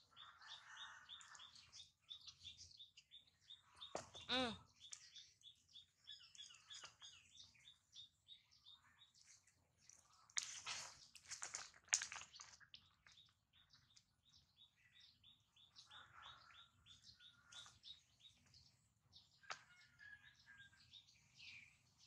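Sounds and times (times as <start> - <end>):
small bird chirping: 0.0 - 11.0, 12.4 - 22.0.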